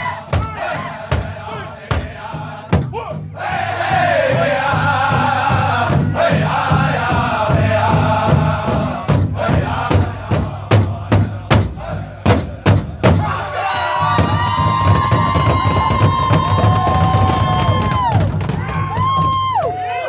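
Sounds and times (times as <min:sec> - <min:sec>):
chorus of voices chanting: 0:00.0 - 0:17.9
large drums beating: 0:00.0 - 0:19.9.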